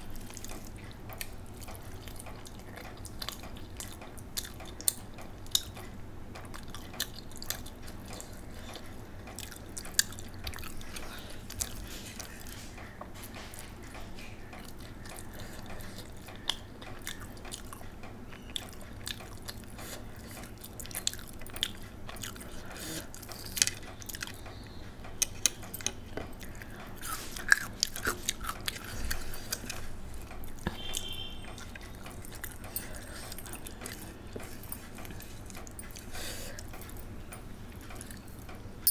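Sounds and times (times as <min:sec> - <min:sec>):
chewing rice and egg: 0:00.0 - 0:38.6.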